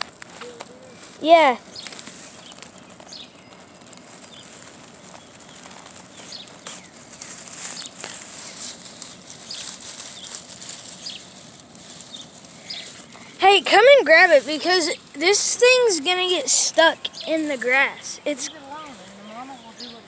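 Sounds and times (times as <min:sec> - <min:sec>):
rustling and crackling in grass: 0:00.0 - 0:20.0
steady high-pitched hiss: 0:03.2 - 0:20.0.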